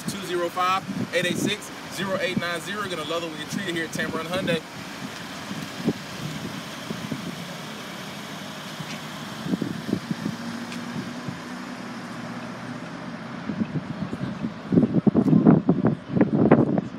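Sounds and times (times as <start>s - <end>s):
vehicle engine hum: 0.0s - 16.9s.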